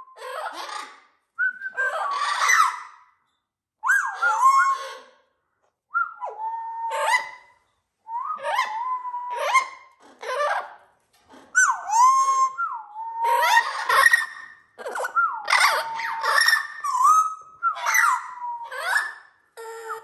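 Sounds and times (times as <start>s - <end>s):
parrots whistling and squawking: 0.1s - 3.2s, 3.8s - 5.1s, 6.0s - 7.7s, 8.3s - 20.0s.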